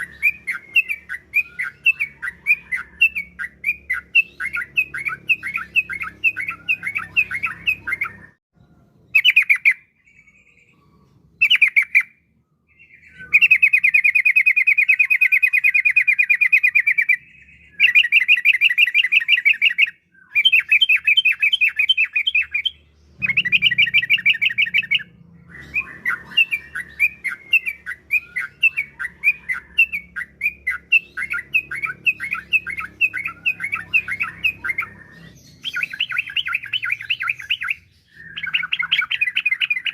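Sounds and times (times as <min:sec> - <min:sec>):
bulbul singing: 0:00.0 - 0:08.4, 0:09.0 - 0:39.9.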